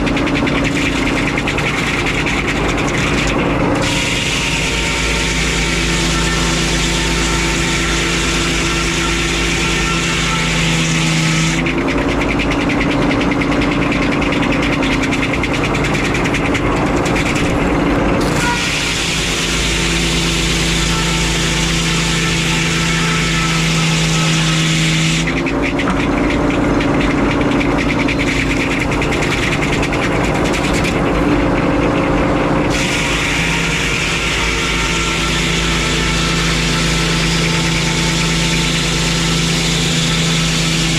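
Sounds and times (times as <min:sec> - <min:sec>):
circular sawmill sawing wood: 0:00.0 - 0:40.9.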